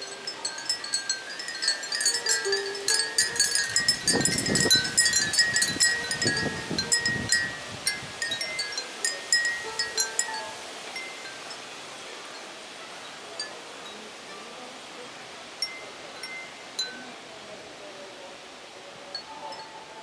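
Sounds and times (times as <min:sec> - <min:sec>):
wind chimes tinkling: 0:00.0 - 0:14.8, 0:15.6 - 0:17.2.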